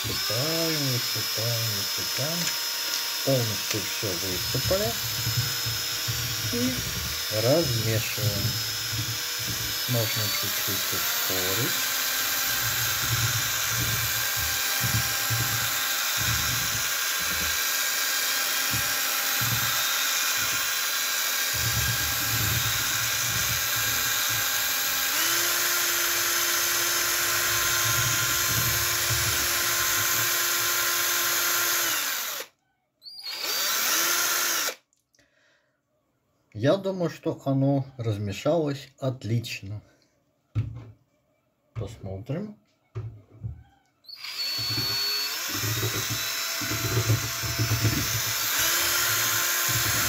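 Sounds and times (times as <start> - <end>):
cordless drill motor whine: 0.0 - 32.5, 33.1 - 34.8, 44.0 - 50.0.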